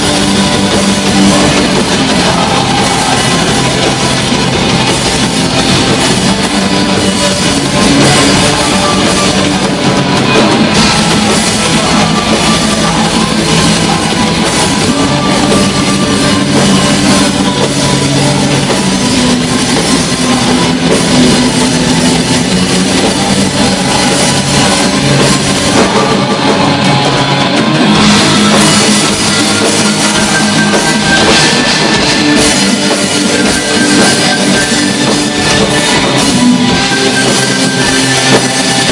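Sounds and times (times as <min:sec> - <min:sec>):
distorted electric guitars: 0:00.0 - 0:38.9
drum kit: 0:00.0 - 0:38.9.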